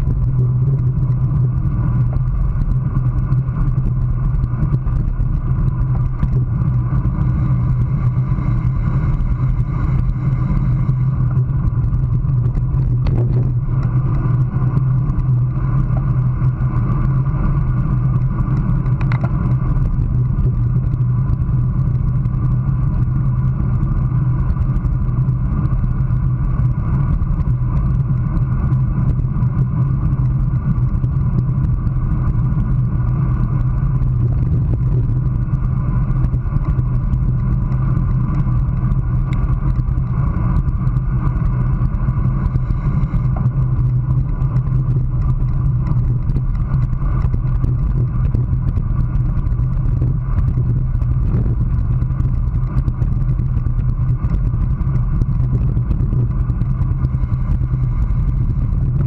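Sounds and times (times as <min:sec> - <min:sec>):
bike tyre and road noise: 0:00.0 - 0:59.0
wind rush over microphone: 0:00.0 - 0:59.0.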